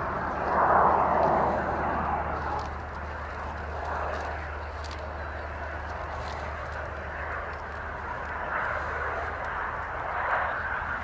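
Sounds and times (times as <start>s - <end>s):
jet engine rushing: 0.0s - 11.0s.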